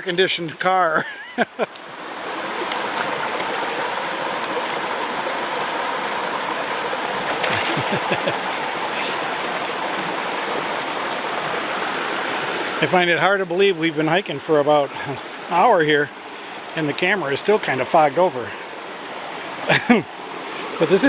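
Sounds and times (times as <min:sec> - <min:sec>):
mountain stream rushing: 0:01.8 - 0:21.0.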